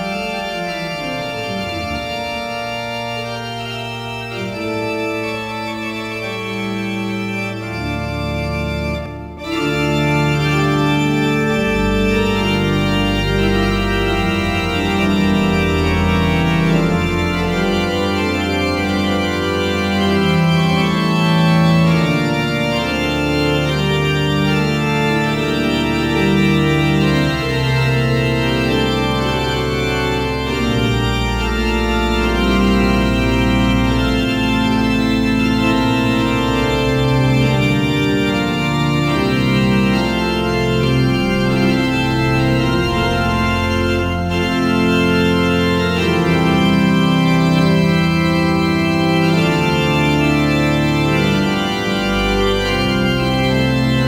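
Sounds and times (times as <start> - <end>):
organ chords: 0.0 - 54.0.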